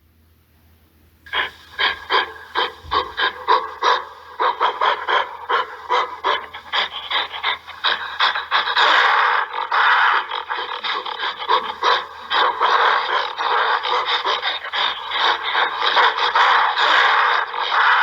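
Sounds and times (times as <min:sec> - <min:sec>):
gorilla calling: 0:01.3 - 0:18.0.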